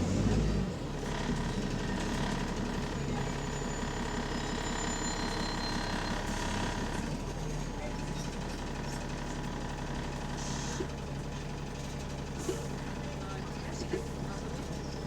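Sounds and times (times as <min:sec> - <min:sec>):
bus engine puttering: 0:00.0 - 0:15.0.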